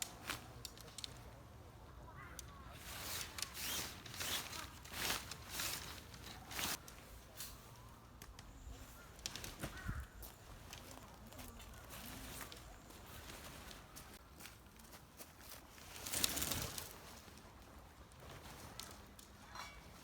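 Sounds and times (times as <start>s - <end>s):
irregular rustling: 2.4s - 20.0s.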